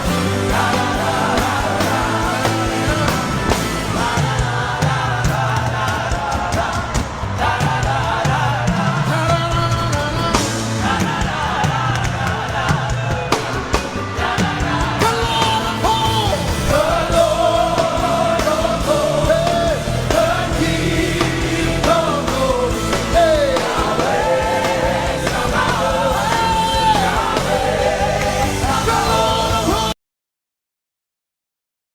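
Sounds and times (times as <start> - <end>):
worship band with singing: 0.0 - 30.0.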